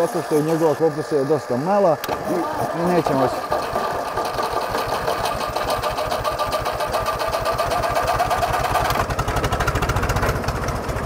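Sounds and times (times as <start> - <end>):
diesel engine cranking: 0.0 - 11.0.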